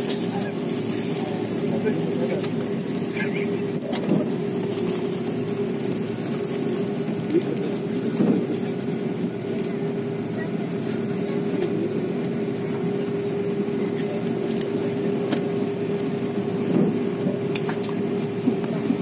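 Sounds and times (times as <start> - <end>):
aircraft cabin rumble: 0.0 - 19.0
constant hum: 0.0 - 19.0.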